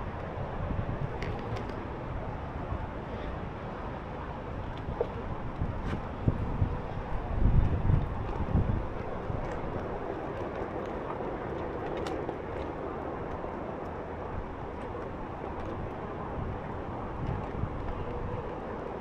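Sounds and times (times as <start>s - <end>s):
electric board rolling on pavement: 0.0s - 2.6s, 4.4s - 19.0s
wind on microphone: 0.0s - 19.0s.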